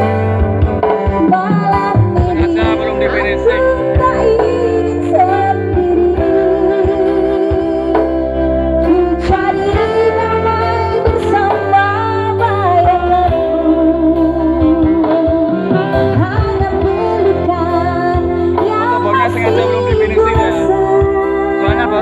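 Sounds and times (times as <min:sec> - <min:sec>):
live band playing through speakers: 0:00.0 - 0:22.0
person singing: 0:00.8 - 0:22.0.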